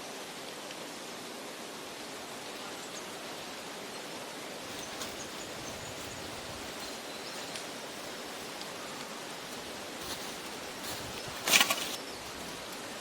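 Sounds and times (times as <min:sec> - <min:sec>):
steady outdoor background rush: 0:00.0 - 0:13.0.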